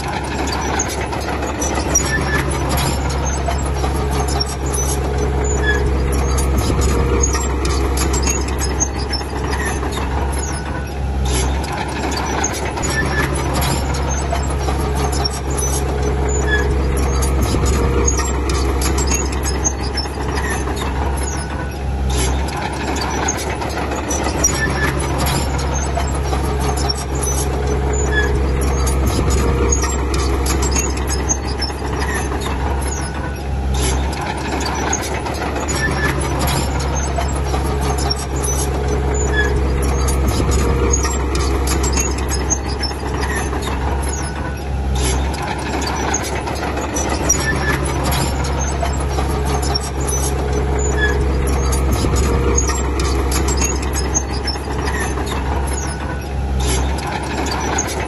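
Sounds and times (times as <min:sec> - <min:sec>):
heavy machinery diesel engine: 0:00.0 - 0:58.0
squeaks and clatter: 0:00.0 - 0:58.0.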